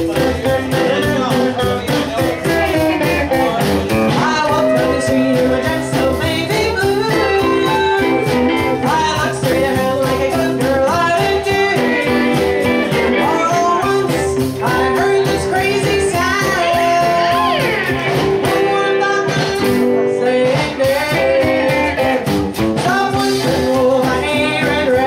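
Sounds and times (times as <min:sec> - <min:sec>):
drums: 0:00.0 - 0:25.0
electric guitar: 0:00.0 - 0:25.0
upright bass: 0:00.0 - 0:25.0
woman singing: 0:00.0 - 0:25.0.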